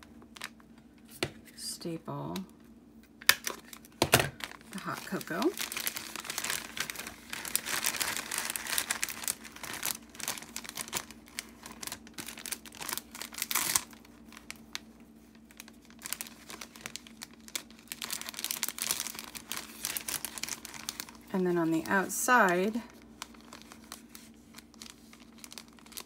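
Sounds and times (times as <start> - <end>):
plastic bag crinkling: 3.3 - 26.0.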